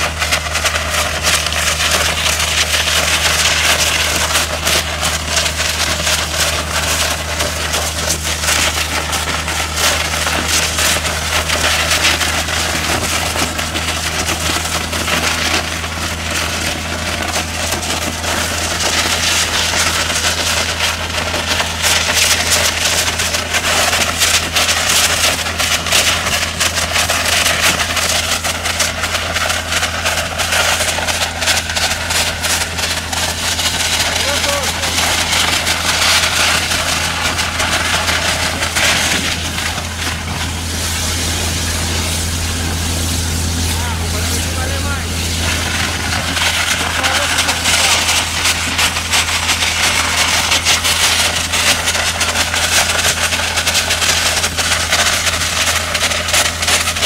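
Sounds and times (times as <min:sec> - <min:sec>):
low engine hum: 0:00.0 - 0:57.0
water jet blasting concrete: 0:00.0 - 0:57.0.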